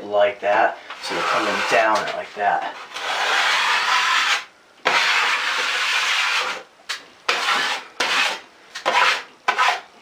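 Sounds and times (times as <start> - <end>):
drywall knife scraping ceiling: 1.0 - 6.7, 7.3 - 9.9.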